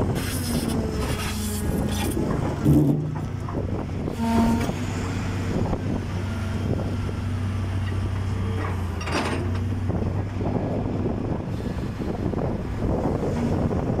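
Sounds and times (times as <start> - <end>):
wheel loader diesel engine: 0.0 - 14.0.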